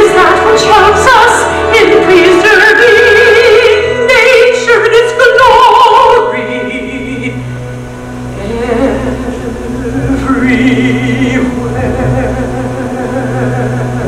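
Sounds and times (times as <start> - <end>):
woman singing operatically: 0.0 - 7.4, 8.3 - 14.0
sustained accompaniment: 0.0 - 14.0.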